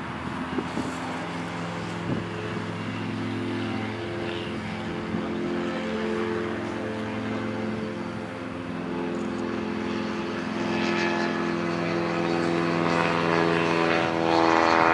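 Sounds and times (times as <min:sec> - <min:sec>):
light aircraft engine running: 0:00.0 - 0:14.9.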